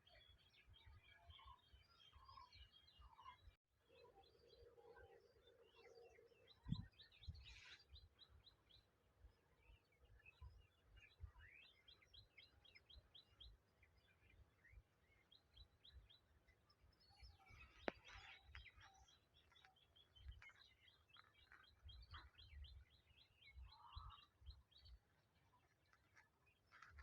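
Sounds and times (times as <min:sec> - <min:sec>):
faint bird chirps: 0:00.0 - 0:27.0.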